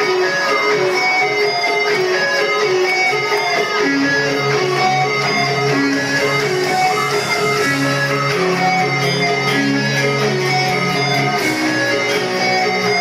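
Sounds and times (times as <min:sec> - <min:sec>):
electric guitar: 0:00.0 - 0:13.0
live rock band: 0:00.0 - 0:13.0.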